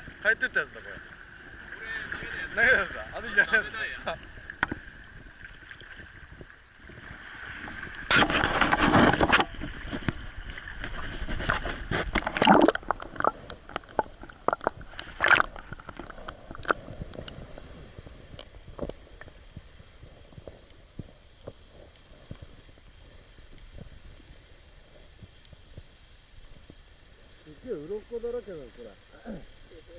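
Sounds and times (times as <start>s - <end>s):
water splashing and sloshing: 0.0s - 27.4s.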